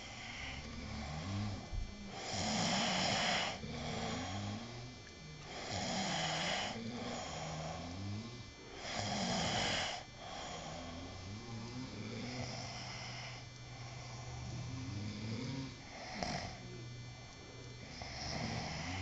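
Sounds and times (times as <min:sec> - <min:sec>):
person snoring: 0:00.0 - 0:16.9, 0:17.8 - 0:19.0.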